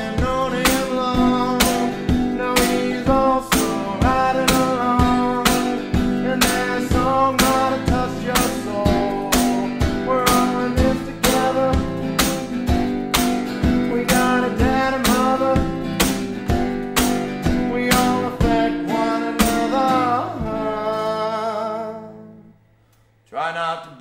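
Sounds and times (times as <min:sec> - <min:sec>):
acoustic guitar strumming: 0:00.0 - 0:22.9.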